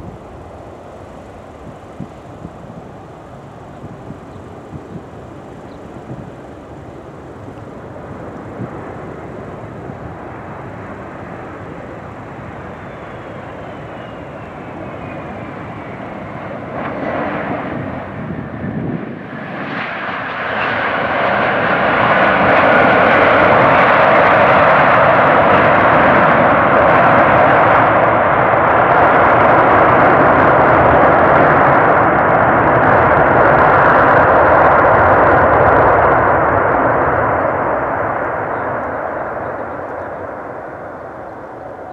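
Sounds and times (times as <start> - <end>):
jet engines at takeoff power: 0.0 - 41.9.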